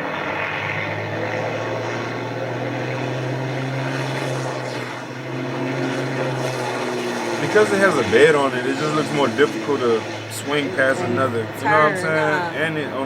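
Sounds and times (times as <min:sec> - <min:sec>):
diesel truck engines drone: 0:00.0 - 0:13.0.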